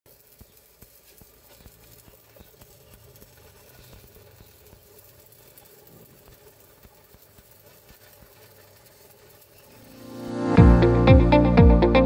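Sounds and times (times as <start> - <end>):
welding arc crackling: 0.1 - 12.0.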